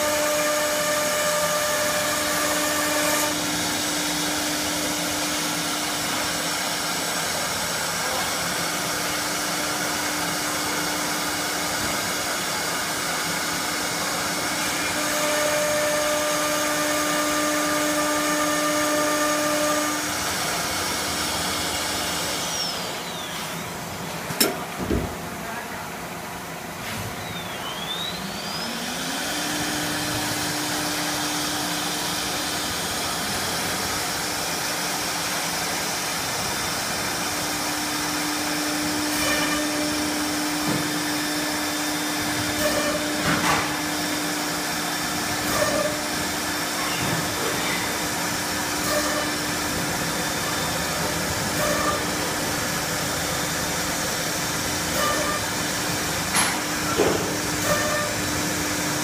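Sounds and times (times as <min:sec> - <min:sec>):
router spindle motor whine: 0:00.0 - 0:08.6, 0:09.2 - 0:23.6, 0:27.3 - 0:59.0.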